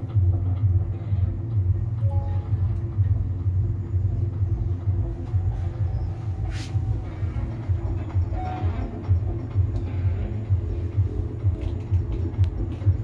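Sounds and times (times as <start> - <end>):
cable car gondola rumble: 0.0 - 13.0.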